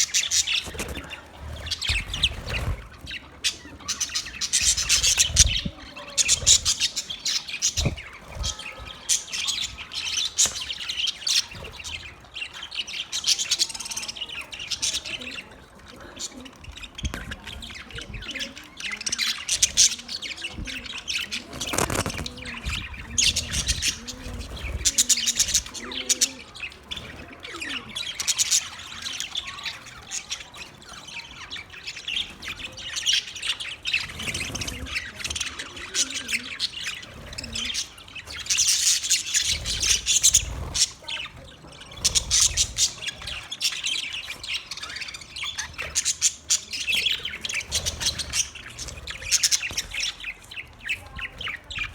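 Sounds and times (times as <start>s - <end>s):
budgerigars chirping: 0.0s - 51.9s.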